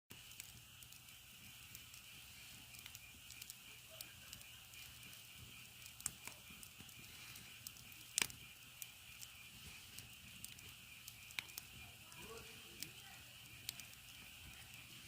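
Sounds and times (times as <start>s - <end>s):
insects chirring: 0.1s - 15.0s
wood fire crackling and popping: 0.1s - 15.0s.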